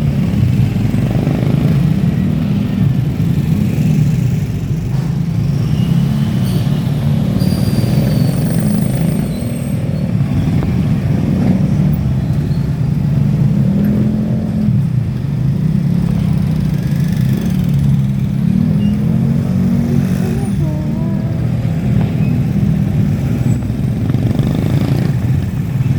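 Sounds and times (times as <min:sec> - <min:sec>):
motorcycle engine humming: 0:00.0 - 0:25.9
road rumble: 0:00.0 - 0:25.9.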